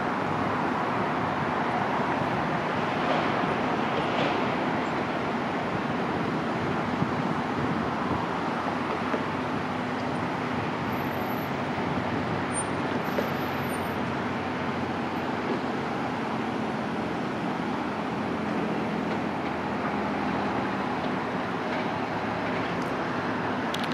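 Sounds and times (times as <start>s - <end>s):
distant traffic rumble: 0.0s - 23.9s.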